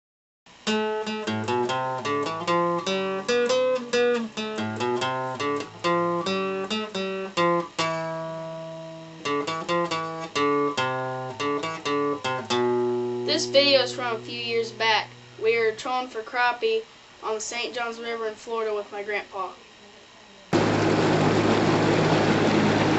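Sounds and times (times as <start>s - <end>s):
acoustic guitar picking: 0.6s - 16.7s, 20.5s - 22.9s.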